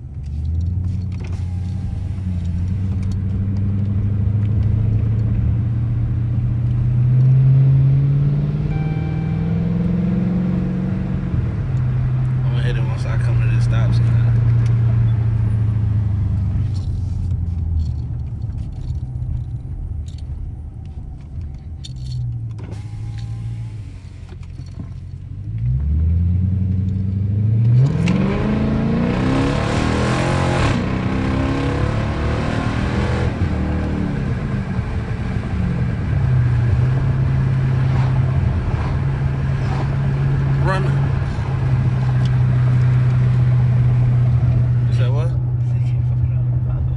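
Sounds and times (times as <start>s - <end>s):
car engine revving: 0.0s - 20.4s, 21.2s - 46.9s.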